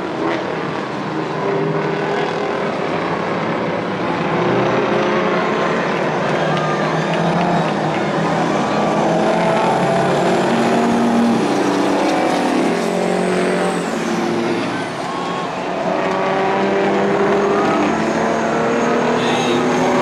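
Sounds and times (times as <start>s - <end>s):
racing truck engines: 0.0s - 20.0s.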